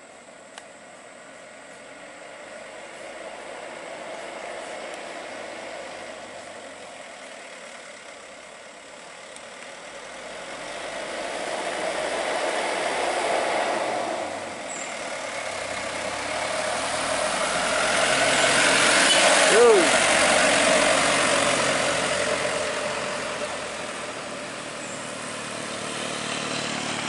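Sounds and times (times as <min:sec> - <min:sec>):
diesel truck engine: 0:00.0 - 0:27.0.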